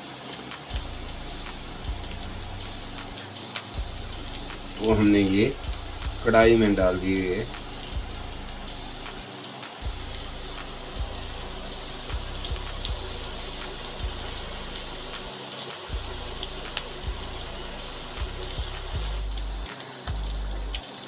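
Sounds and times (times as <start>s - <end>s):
deep-frying sizzle with pops: 0.0s - 21.0s
low hum: 0.6s - 15.3s, 15.9s - 20.8s.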